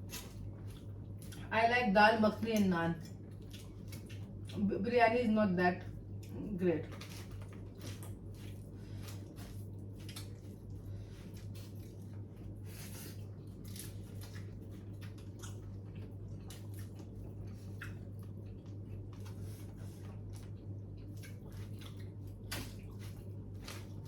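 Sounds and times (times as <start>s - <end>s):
chewing and biting food: 0.0s - 1.5s, 2.4s - 4.7s, 5.8s - 24.0s
steady low hum: 0.0s - 24.0s.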